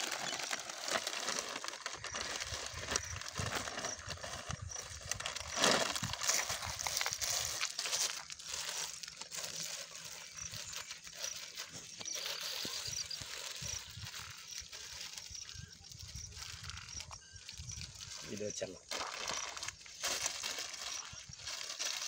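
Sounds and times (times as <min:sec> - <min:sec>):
plastic crinkling and rustling: 0:00.0 - 0:22.0.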